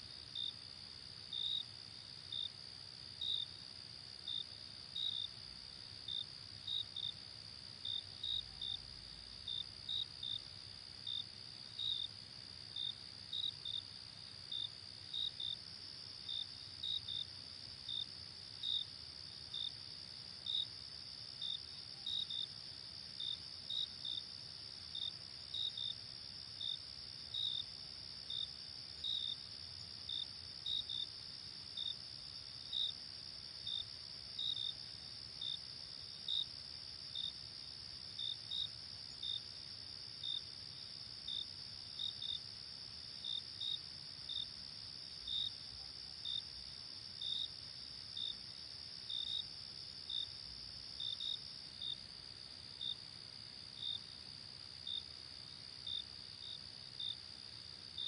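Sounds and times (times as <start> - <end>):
cricket chirps: 0.0 - 58.0.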